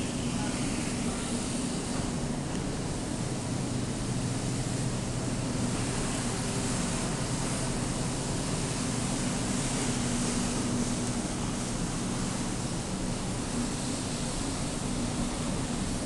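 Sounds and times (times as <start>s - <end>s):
store interior ambience: 0.0s - 16.0s.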